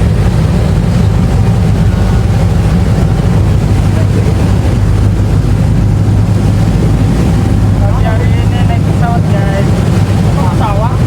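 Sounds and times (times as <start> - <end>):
ferry engines droning: 0.0 - 11.0.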